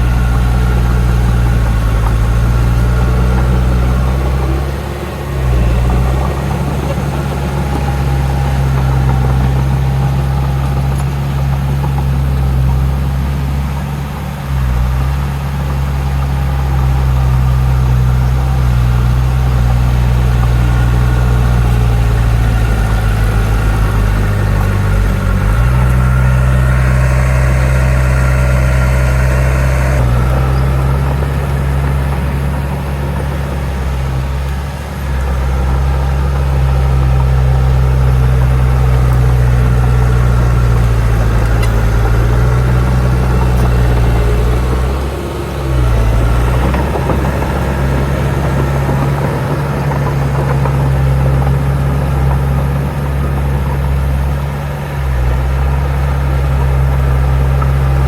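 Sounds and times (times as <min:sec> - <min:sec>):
heavy diesel machinery engine drone: 0:00.0 - 0:58.0.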